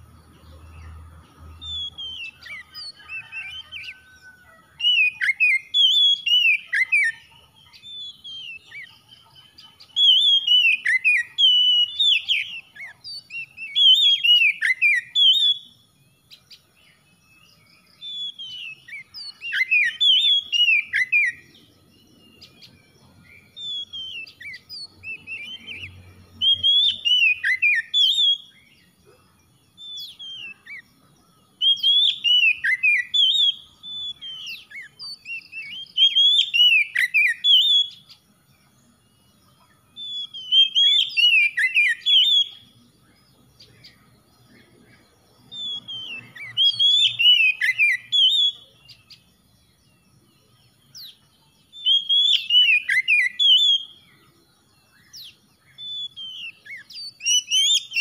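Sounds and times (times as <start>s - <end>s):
bird singing whistles and chirps: 0.0s - 58.0s.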